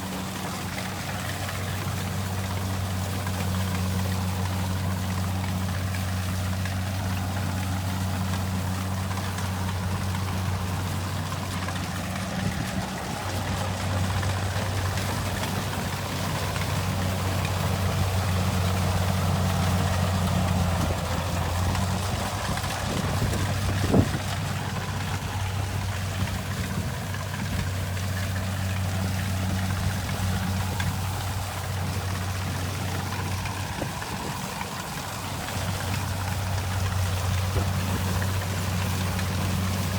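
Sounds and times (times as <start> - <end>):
combine harvester engine hum: 0.0 - 39.9
rushing mechanical noise: 0.0 - 39.9.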